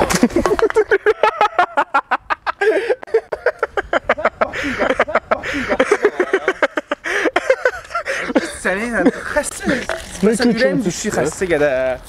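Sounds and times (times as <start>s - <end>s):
men laughing hard: 0.0s - 10.1s.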